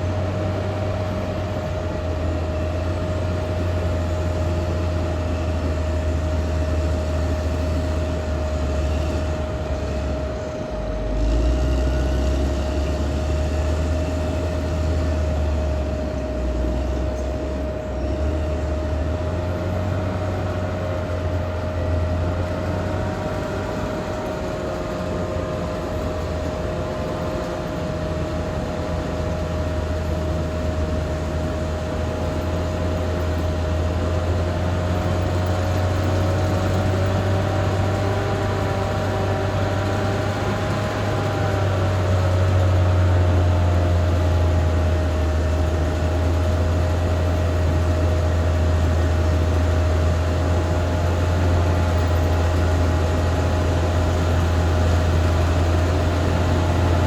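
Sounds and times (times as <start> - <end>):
bulldozer diesel drone: 0.0 - 57.0
high machine whine: 0.0 - 57.0.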